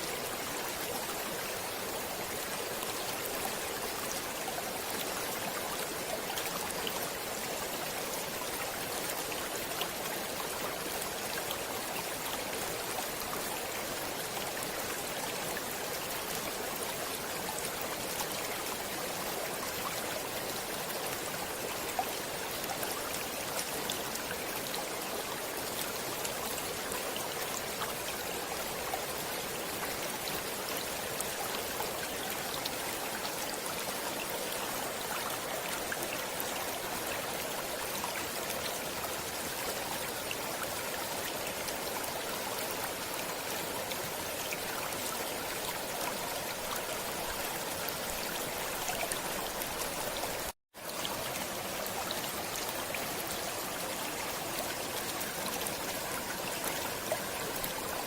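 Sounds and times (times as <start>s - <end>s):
stream water running over stones: 0.0s - 58.0s.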